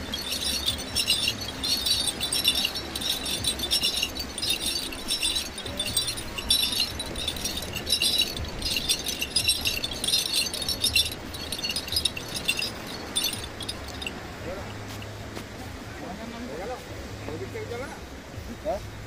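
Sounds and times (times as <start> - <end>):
harness bells jingling: 0.0 - 15.3.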